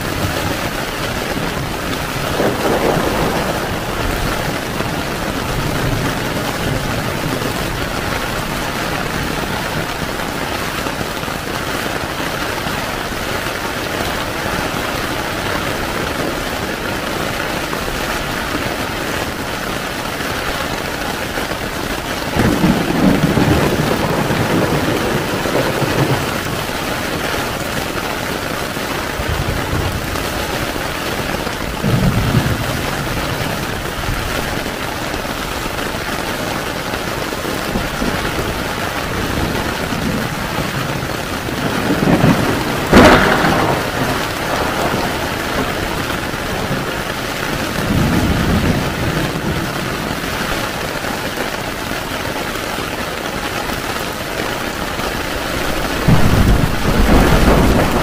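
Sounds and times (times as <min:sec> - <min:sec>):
thunder rumbling: 0:00.0 - 0:52.6, 0:53.2 - 0:58.0
heavy rain on a tent: 0:00.0 - 0:58.0.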